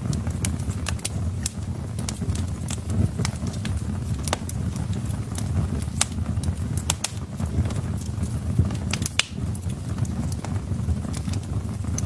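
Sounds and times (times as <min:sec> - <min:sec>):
fire flames rumbling: 0:00.0 - 0:12.0
logs crackling and popping: 0:00.0 - 0:12.0.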